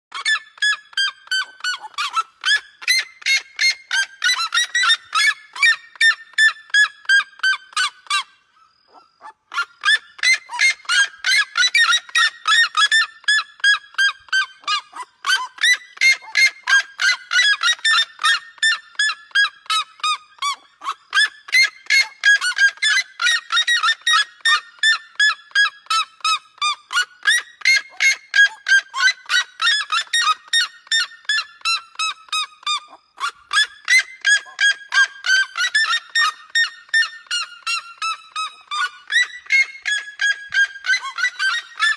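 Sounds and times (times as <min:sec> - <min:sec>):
birds yelping calls: 0:00.1 - 0:41.9.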